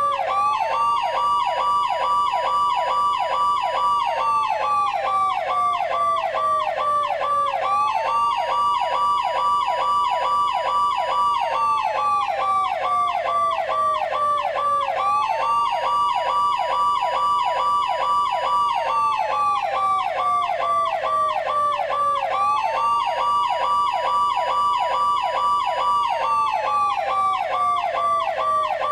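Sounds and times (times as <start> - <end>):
fast warbling siren: 0.0 - 28.9
slow wailing siren: 0.0 - 28.9.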